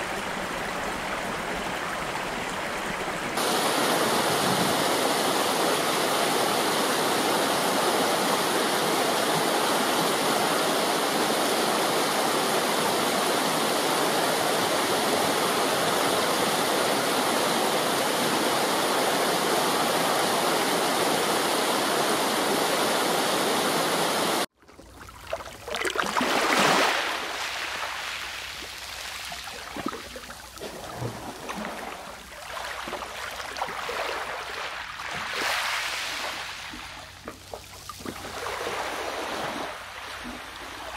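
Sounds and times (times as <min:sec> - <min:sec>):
river water rushing: 0:00.0 - 0:24.5, 0:25.8 - 0:37.2, 0:38.1 - 0:40.9
waves washing ashore: 0:00.0 - 0:24.5, 0:25.7 - 0:40.9.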